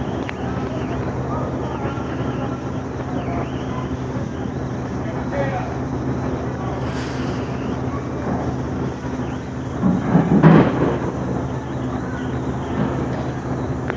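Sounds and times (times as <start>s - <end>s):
railway platform hum and rumble: 0.0s - 13.9s
burst of rough noise: 1.0s - 13.9s.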